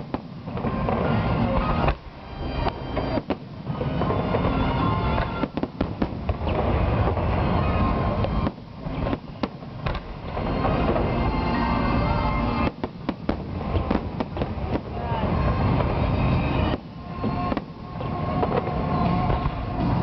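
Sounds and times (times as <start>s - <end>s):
fireworks bangs: 0.0s - 20.0s
fireworks crackle and rumble: 0.0s - 20.0s
music playing: 0.0s - 20.0s.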